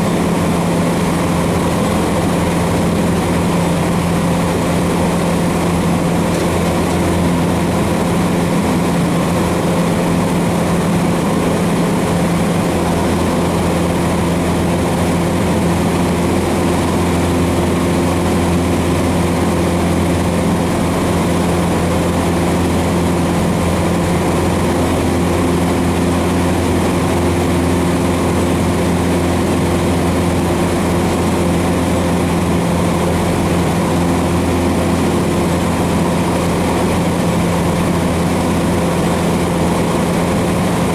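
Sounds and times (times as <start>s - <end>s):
airplane engine droning: 0.0s - 40.9s.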